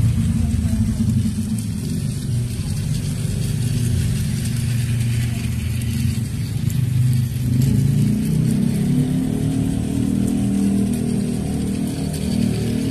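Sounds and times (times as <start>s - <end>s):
toy train motor whirring: 0.0s - 12.9s.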